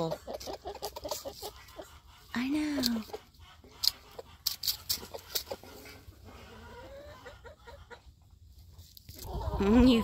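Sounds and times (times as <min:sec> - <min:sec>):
chickens clucking softly: 0:00.0 - 0:10.0.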